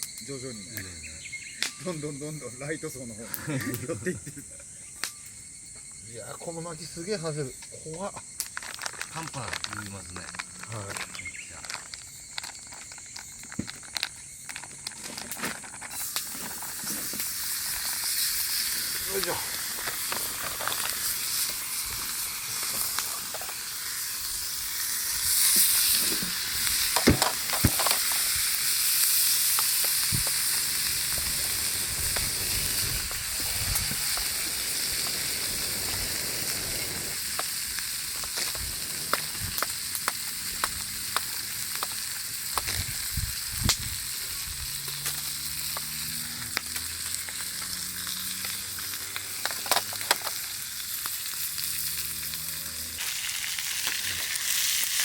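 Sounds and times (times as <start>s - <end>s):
campfire sizzling: 0.0s - 55.0s
fire popping: 0.0s - 55.0s.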